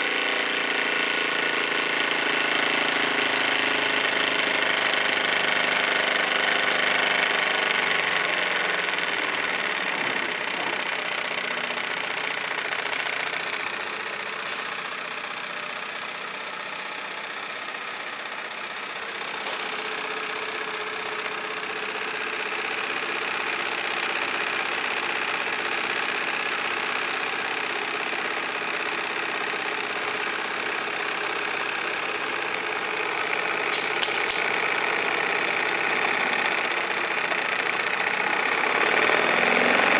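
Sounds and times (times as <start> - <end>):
toy steam engine chuffing: 0.0 - 39.9.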